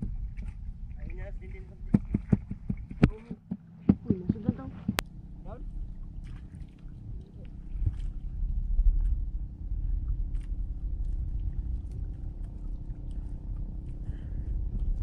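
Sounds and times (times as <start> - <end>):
wind and sea rumble: 0.0 - 15.0.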